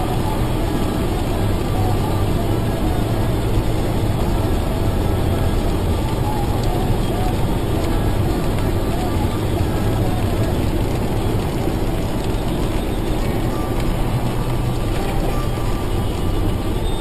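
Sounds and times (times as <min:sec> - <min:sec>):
car engine: 0:00.0 - 0:17.0
rain noise: 0:00.0 - 0:17.0.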